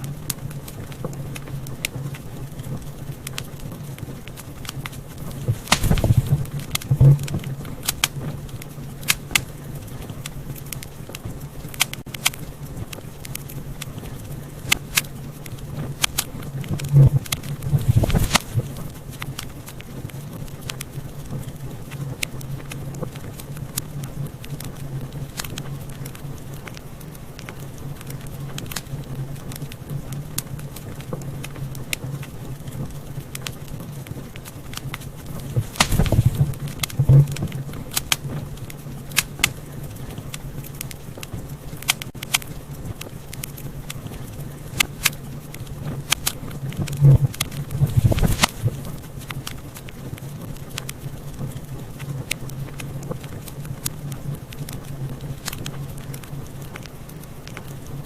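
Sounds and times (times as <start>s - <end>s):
low fire rumble: 0.0s - 58.0s
wood fire crackling and popping: 0.0s - 58.0s.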